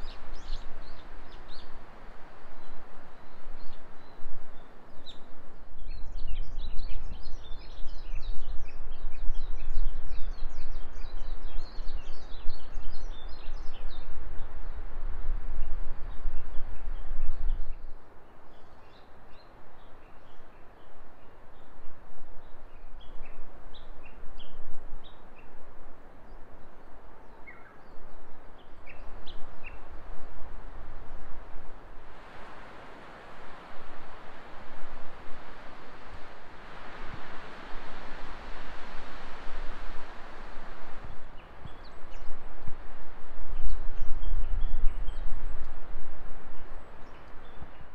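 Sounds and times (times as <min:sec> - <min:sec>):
songbirds chirping: 0:00.0 - 0:34.7, 0:35.4 - 0:42.9, 0:43.5 - 0:47.9
rushing wind: 0:00.0 - 0:47.9.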